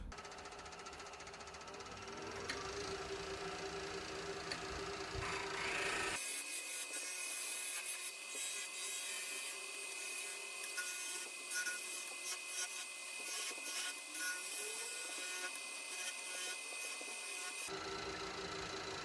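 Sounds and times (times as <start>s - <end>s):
lathe tool scraping wood: 0.2s - 18.2s.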